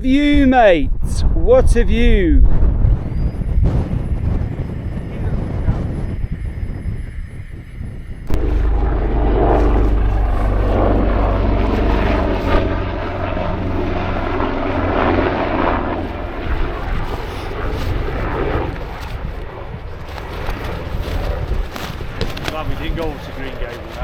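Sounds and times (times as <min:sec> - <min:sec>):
gusty wind noise: 0:00.0 - 0:24.0
helicopter rotor and engine drone: 0:00.0 - 0:24.0.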